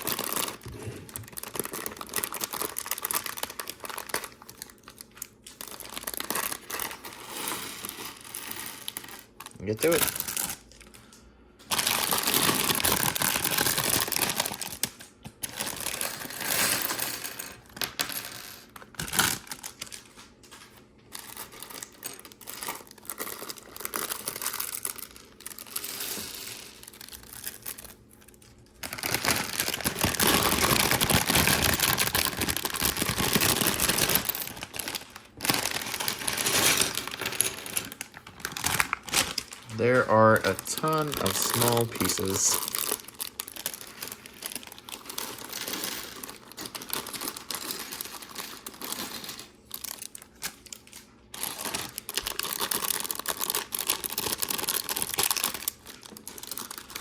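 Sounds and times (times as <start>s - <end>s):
small plastic pieces clattering: 0.0s - 10.9s, 11.7s - 57.0s
plastic bags crinkling: 0.0s - 57.0s.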